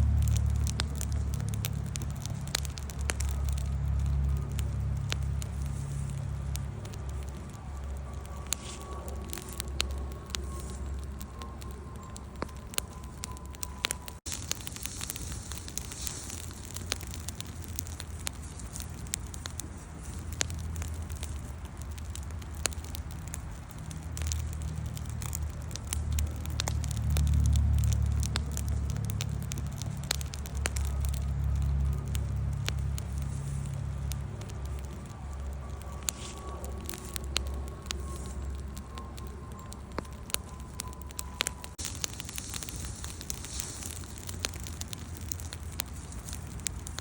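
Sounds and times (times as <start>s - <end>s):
campfire crackling and popping: 0.0s - 47.0s
low rumble: 0.0s - 47.0s.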